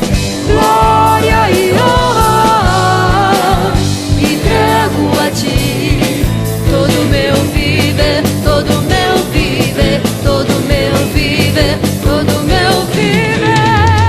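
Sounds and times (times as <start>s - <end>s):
gospel band playing: 0.0s - 14.0s.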